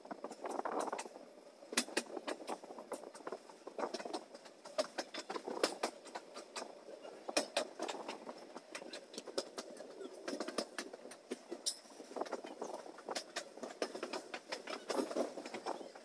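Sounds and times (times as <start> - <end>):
train running on track: 0.0 - 16.0
sharp clicks and rattles: 1.7 - 16.0.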